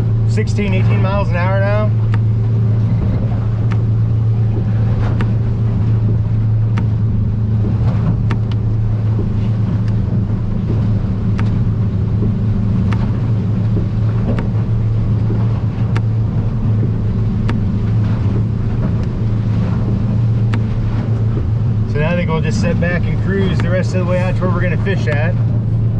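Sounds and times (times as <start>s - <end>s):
hull slapping through chop: 0.0s - 25.9s
outboard motor running: 0.0s - 25.9s.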